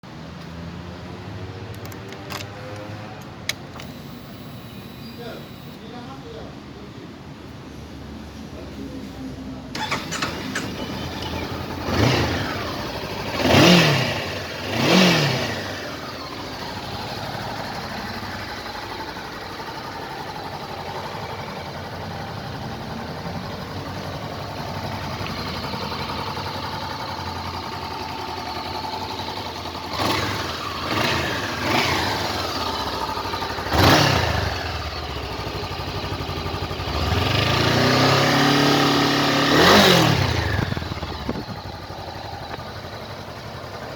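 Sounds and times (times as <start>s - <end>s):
motorcycle engine revving: 0.8s - 5.8s, 9.8s - 43.9s.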